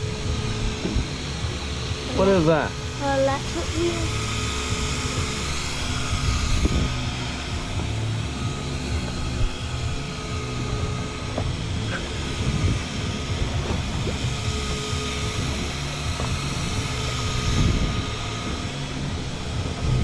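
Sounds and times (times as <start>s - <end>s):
high motor whine: 0.0s - 20.0s
motor droning: 0.0s - 20.0s.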